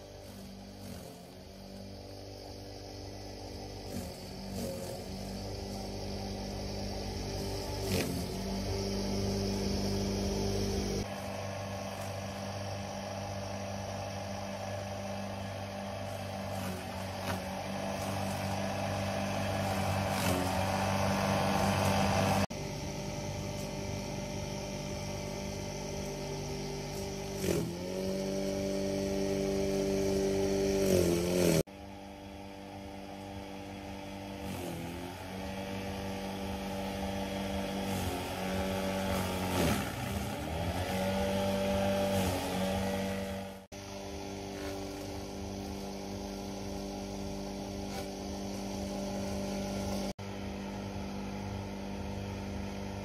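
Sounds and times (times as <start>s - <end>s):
crusher machine running: 0.0s - 53.0s.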